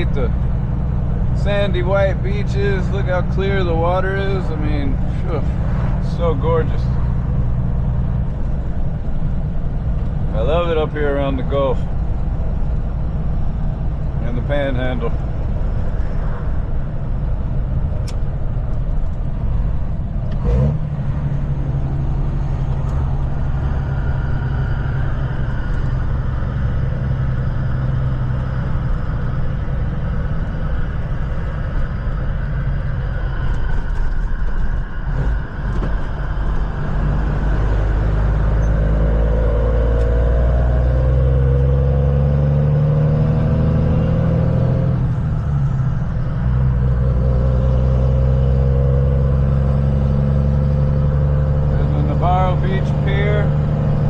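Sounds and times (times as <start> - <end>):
truck diesel engine running: 0.0 - 42.6, 43.4 - 54.0
road noise: 0.0 - 54.0.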